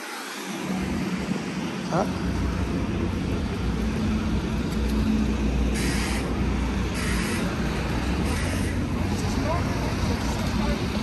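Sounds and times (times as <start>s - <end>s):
vehicle engine low hum: 0.4s - 11.0s.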